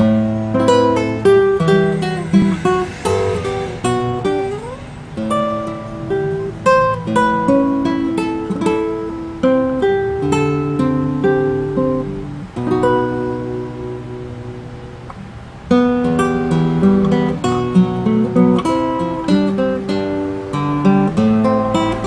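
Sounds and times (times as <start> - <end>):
fingerstyle nylon guitar: 0.0 - 22.0.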